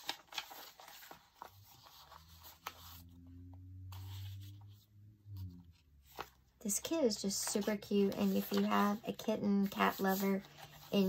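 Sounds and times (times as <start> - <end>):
paper pages rustling: 0.0 - 3.2, 3.9 - 11.0.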